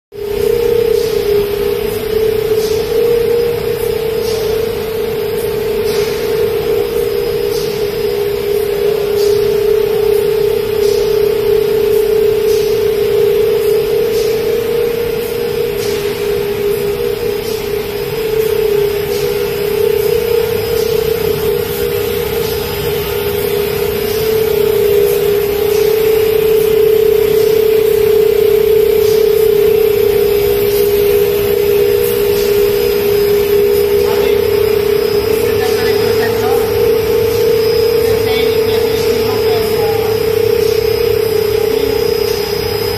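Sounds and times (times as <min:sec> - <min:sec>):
even mechanical noise: 0:00.1 - 0:42.9
machinery humming: 0:00.1 - 0:42.9.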